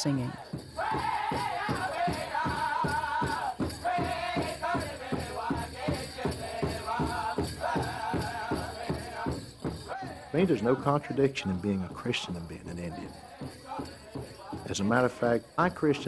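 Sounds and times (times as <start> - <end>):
high wavering group singing: 0.0 - 11.3, 13.0 - 15.1
steady drumbeat: 0.0 - 16.0.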